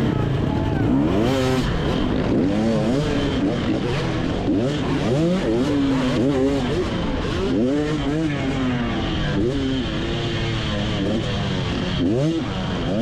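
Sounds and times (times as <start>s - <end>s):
motocross bike engine revving: 0.0s - 13.0s.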